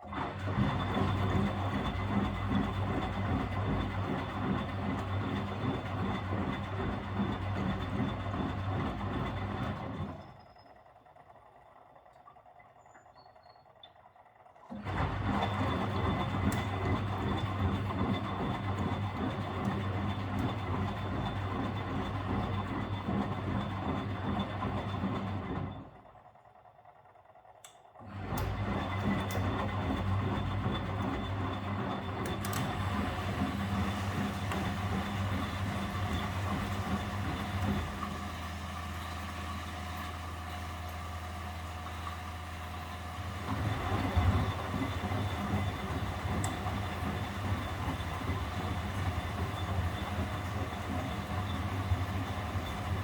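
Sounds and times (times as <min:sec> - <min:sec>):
washing machine motor humming: 0:00.0 - 0:10.4, 0:14.7 - 0:26.0, 0:28.0 - 0:53.0.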